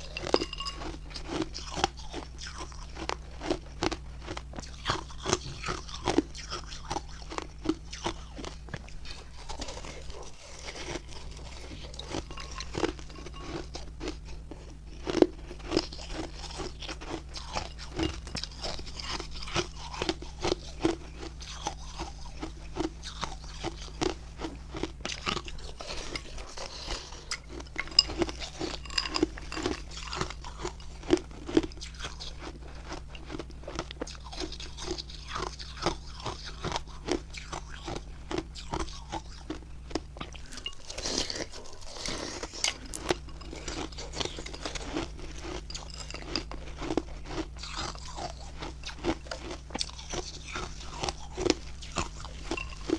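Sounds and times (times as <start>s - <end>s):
chewing crunchy ice: 0.0s - 52.9s.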